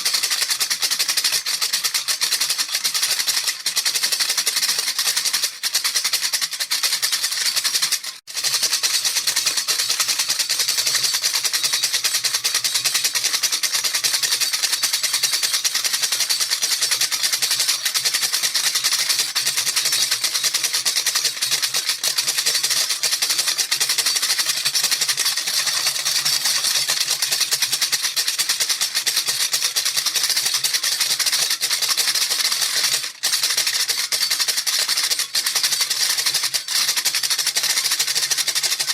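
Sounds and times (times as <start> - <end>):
baby rattle shaking: 0.0 - 38.9.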